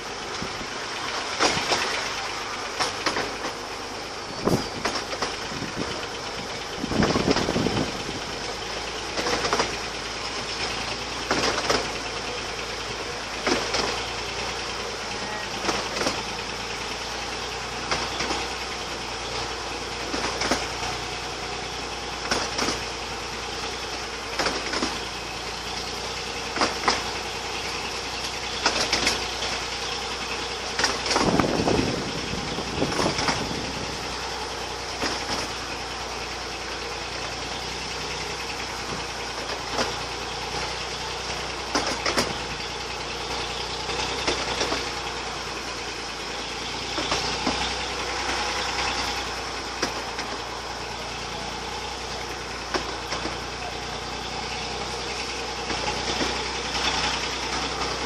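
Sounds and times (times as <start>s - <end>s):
sharp rail clicks: 0.0s - 14.8s, 15.5s - 45.4s, 46.2s - 58.0s
miniature train rolling on track: 0.0s - 58.0s.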